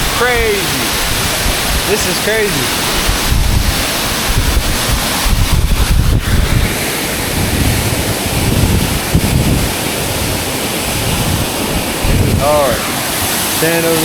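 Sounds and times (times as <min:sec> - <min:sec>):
wind buffeting microphone: 0:00.0 - 0:01.9, 0:02.5 - 0:14.0
waterfall rushing: 0:00.0 - 0:14.0.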